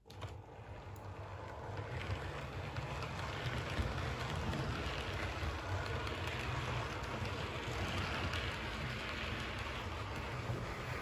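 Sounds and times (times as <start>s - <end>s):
model train wheels rattling: 1.4s - 11.0s.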